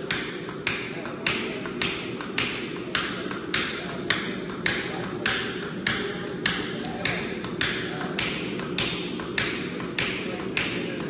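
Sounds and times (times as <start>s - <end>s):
hammer striking steel on anvil: 0.0s - 11.0s
steady low hum: 0.0s - 11.0s.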